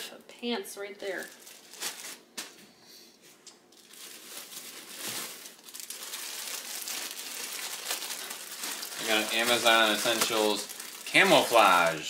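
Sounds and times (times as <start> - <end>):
plastic bags crinkling: 1.1 - 2.6, 3.6 - 12.0.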